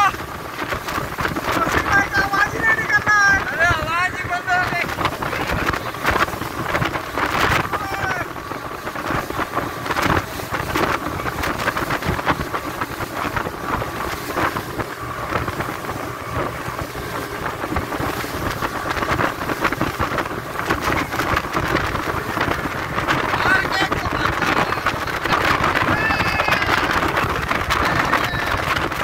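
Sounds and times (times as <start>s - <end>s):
boat motor: 0.0s - 29.0s
rush of hull and spray: 0.0s - 29.0s
wind buffeting microphone: 0.0s - 29.0s.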